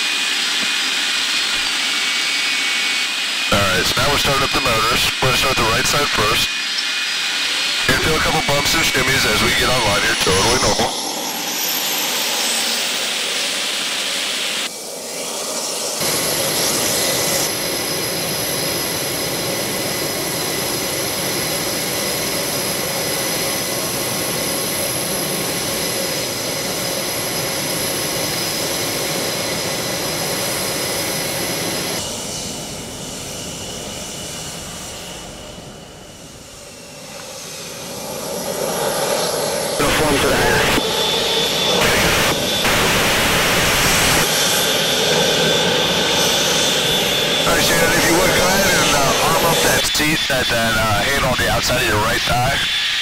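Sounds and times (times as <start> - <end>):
jet engine roar with whine: 0.0 - 53.0.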